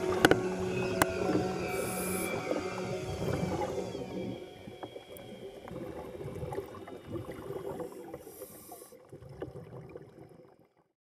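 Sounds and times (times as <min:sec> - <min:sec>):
underwater bubbles gurgling: 0:00.0 - 0:10.9.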